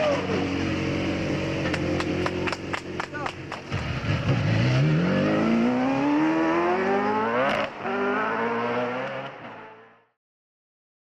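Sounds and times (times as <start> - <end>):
race car accelerating: 0.0 - 10.2.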